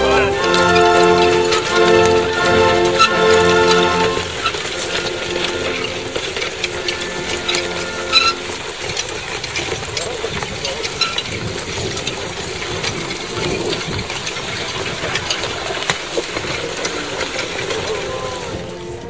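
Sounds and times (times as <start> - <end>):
harness chains clinking: 0.0 - 19.0
outdoor noise: 0.0 - 19.0.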